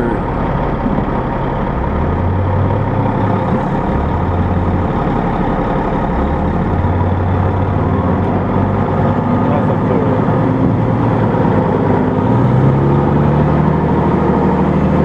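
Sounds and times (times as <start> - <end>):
heavy diesel truck engine: 0.0 - 15.0.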